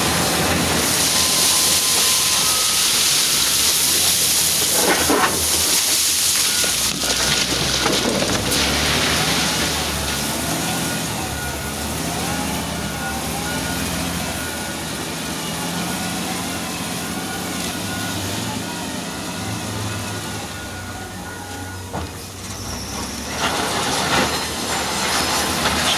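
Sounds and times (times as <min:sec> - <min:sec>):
diesel engine under load: 0:00.0 - 0:25.9.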